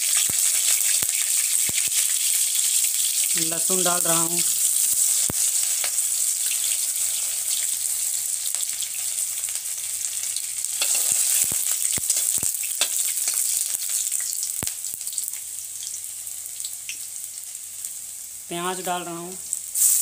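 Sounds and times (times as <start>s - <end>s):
garlic sizzling in hot oil: 0.0s - 20.0s.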